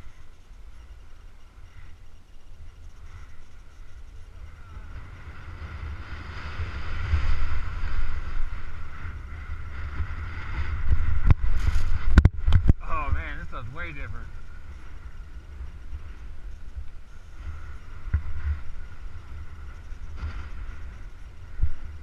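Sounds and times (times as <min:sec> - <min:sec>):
snow hissing under rider: 0:00.0 - 0:12.1, 0:14.5 - 0:22.0
wind buffeting microphone: 0:00.0 - 0:22.0.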